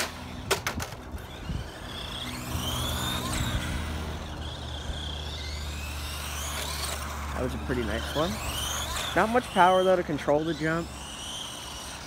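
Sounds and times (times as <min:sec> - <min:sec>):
rc truck motor whining: 0:00.0 - 0:12.0.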